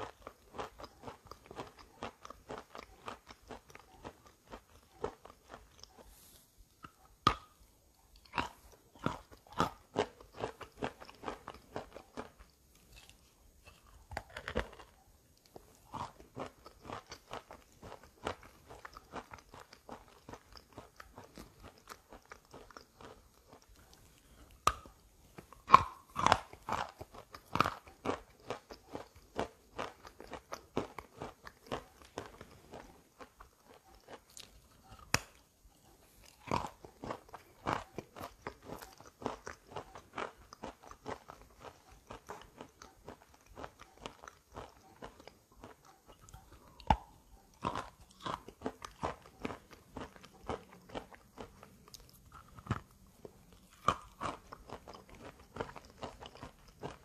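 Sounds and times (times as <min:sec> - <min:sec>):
chalk being bitten and chewed: 0:00.0 - 0:57.0.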